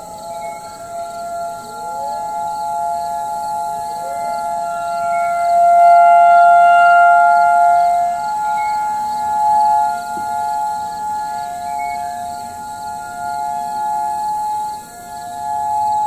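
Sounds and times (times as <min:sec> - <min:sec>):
tornado warning sirens: 0:00.0 - 0:16.0.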